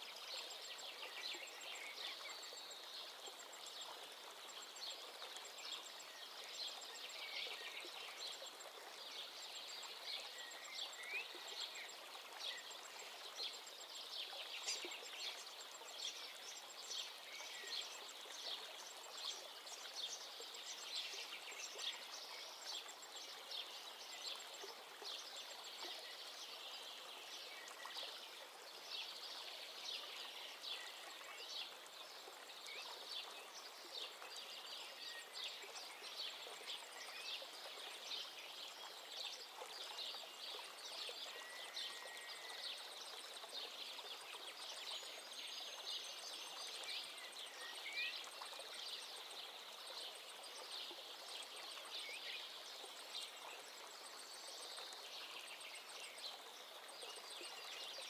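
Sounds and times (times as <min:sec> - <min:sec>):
rippling water: 0:00.0 - 0:58.0.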